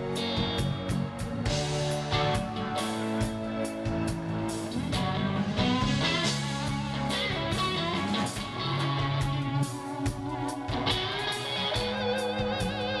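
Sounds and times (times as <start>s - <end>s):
drum and cymbal hits: 0.0s - 13.0s
electric guitar sustained notes: 0.0s - 13.0s.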